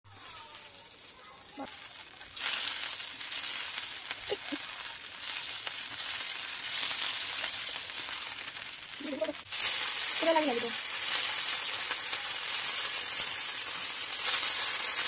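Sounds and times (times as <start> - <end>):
fish sizzling in hot oil: 0.1 - 15.0.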